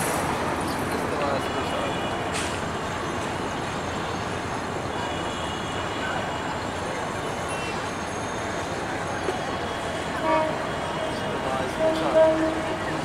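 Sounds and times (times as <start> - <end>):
carriages rumbling on rails: 0.0 - 13.0.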